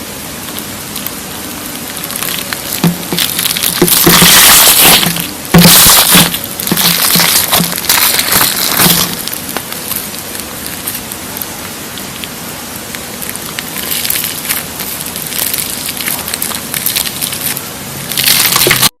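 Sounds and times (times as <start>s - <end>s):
slime squeezed crackling: 0.4s - 19.0s.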